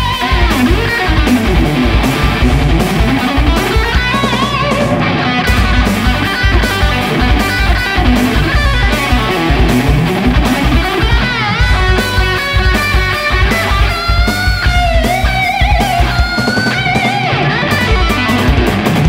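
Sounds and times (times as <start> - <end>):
bass guitar: 0.0 - 19.0
distorted electric guitar: 0.0 - 19.0
drums: 0.0 - 19.0.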